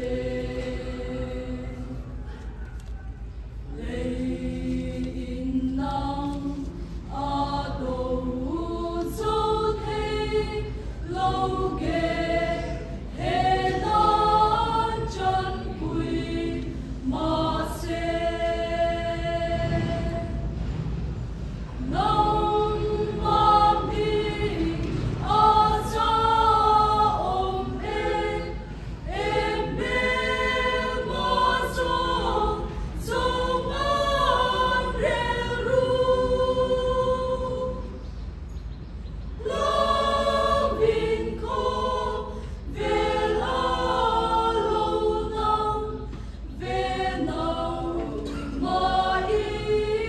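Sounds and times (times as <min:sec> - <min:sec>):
choir singing a hymn unaccompanied: 0:00.0 - 0:50.0.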